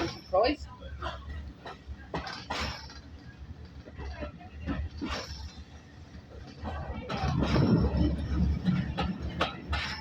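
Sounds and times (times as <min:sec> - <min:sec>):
steam train rumbling: 0:00.0 - 0:10.0.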